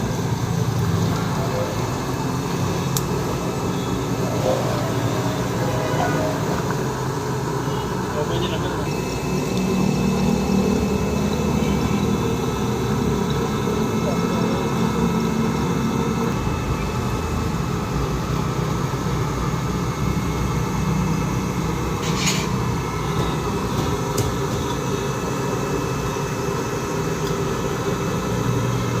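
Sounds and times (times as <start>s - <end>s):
low mechanical rumble: 0.0s - 29.0s.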